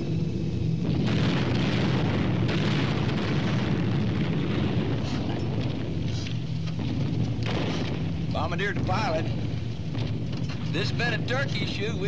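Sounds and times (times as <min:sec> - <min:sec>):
rumbling explosions: 0:00.0 - 0:12.0.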